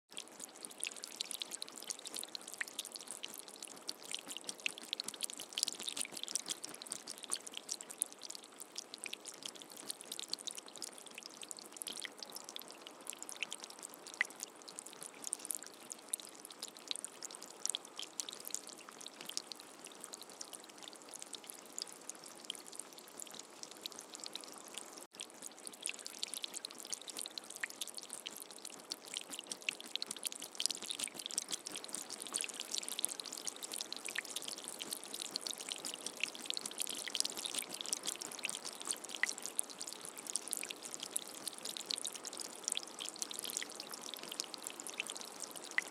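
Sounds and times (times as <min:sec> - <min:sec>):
rain pattering: 0:00.1 - 0:45.9.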